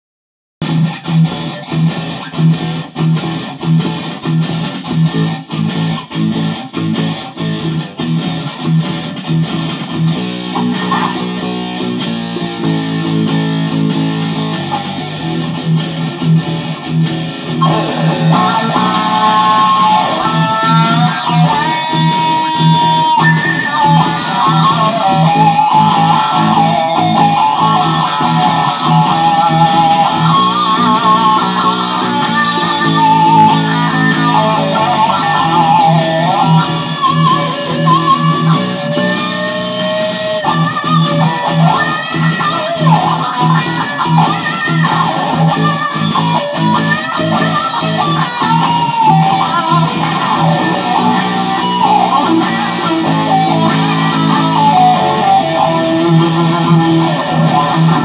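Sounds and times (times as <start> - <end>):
backing track with beat: 0.6 - 58.0
electric guitar blues solo: 0.6 - 58.0.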